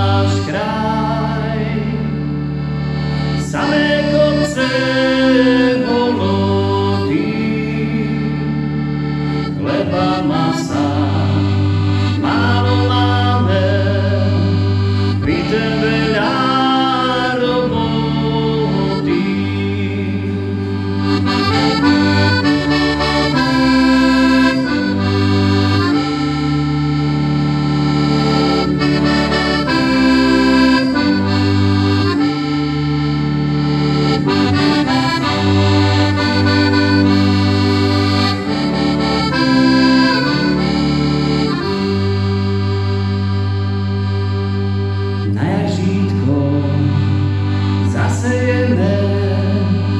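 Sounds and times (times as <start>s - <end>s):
accordion playing folk tune: 0.0s - 49.9s.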